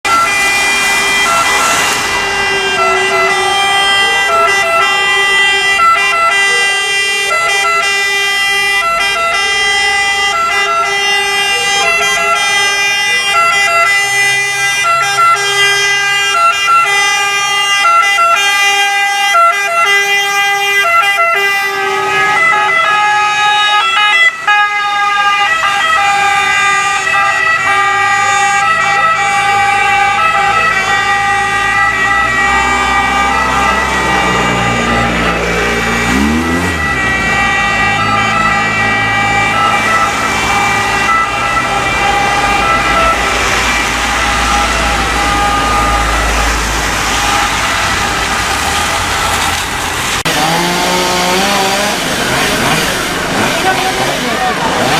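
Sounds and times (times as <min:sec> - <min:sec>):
two-tone sirens: 0:00.0 - 0:54.9.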